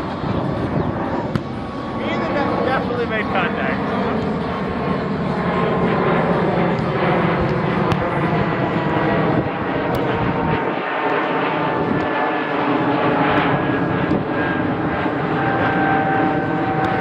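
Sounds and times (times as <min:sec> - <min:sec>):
airplane flying over: 0:00.0 - 0:17.0.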